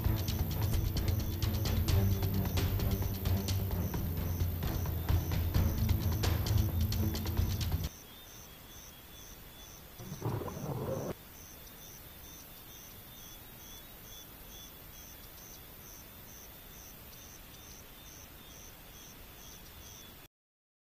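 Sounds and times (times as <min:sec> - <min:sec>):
background hiss: 0:00.0 - 0:20.3
insects chirping: 0:00.0 - 0:20.3.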